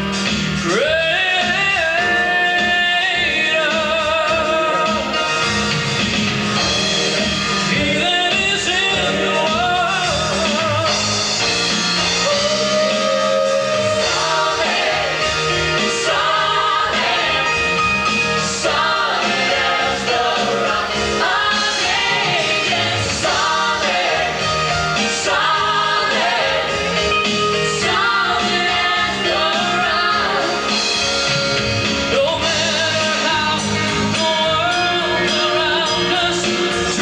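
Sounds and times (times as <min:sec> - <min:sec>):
gospel singing with band: 0:00.1 - 0:37.0.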